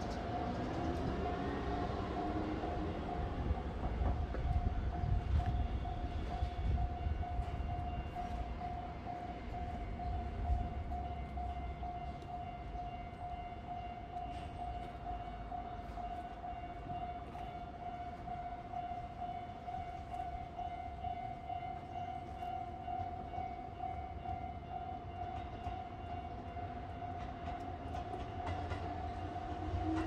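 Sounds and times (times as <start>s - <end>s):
level crossing warning bell: 0.0s - 30.0s
train rumbling past: 0.0s - 30.0s.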